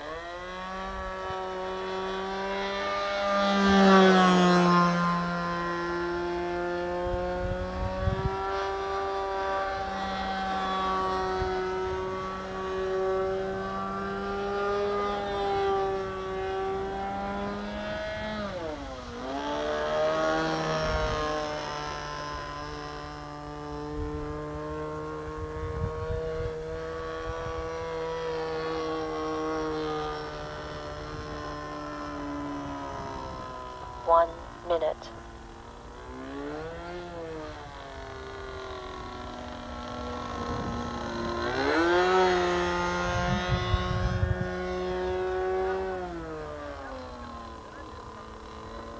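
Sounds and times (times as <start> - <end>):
model airplane engine buzzing: 0.0 - 48.9.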